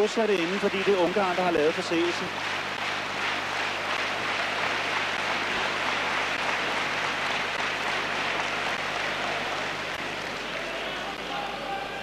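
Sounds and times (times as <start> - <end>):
arena crowd hubbub: 0.0 - 12.0.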